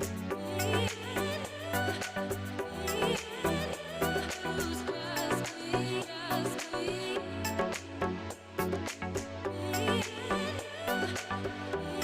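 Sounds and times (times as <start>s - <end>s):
wavering vocal melody: 0.0s - 8.2s, 9.5s - 12.0s
song with steady beat: 0.0s - 12.0s.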